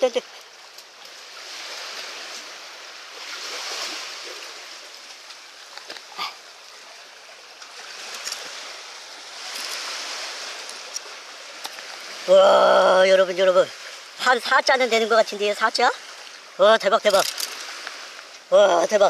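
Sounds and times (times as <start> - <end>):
sea surf washing onto beach: 0.0 - 19.0.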